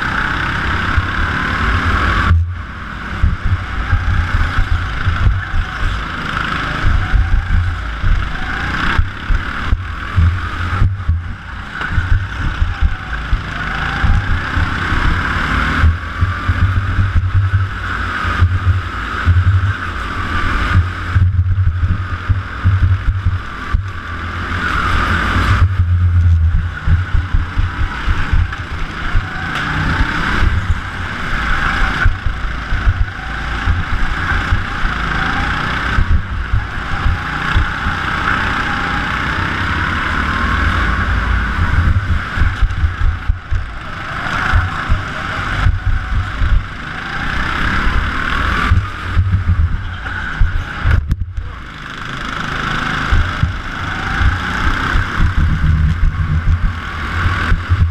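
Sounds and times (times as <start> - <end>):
go-kart motor: 0.0 - 57.9
wind rumble on microphone: 0.0 - 57.9.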